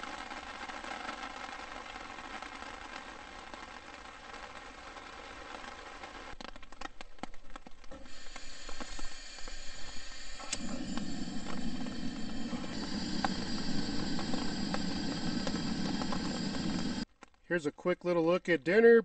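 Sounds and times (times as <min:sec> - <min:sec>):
rain hissing: 0:00.0 - 0:17.3
sharp crackles: 0:00.0 - 0:18.8.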